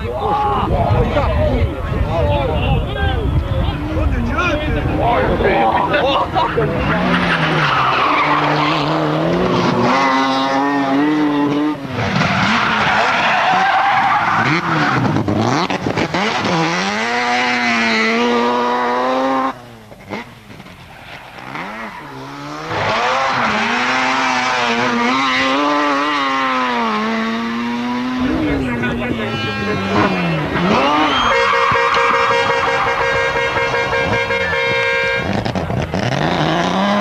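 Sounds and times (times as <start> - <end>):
rally car engine revving: 4.2 - 37.0.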